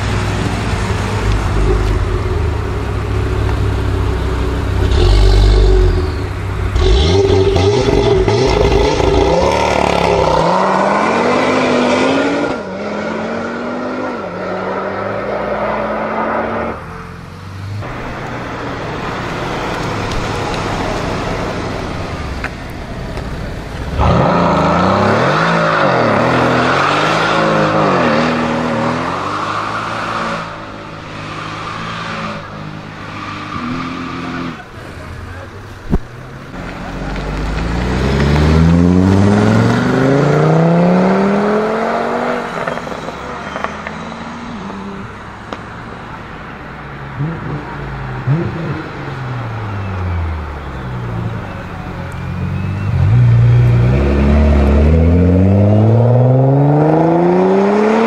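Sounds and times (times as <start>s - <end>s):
sports car engines accelerating: 0.0s - 58.0s.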